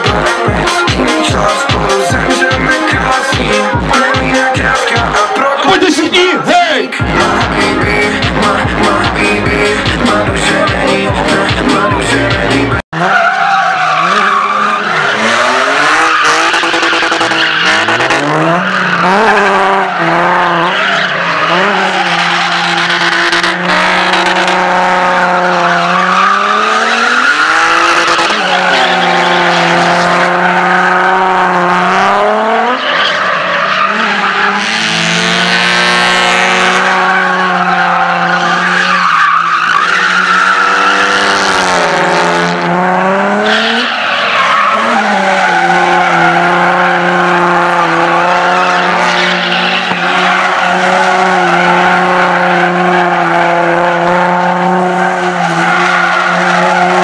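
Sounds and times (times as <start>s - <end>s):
car engines revving: 0.0s - 57.0s
tyres squealing on asphalt: 0.0s - 57.0s.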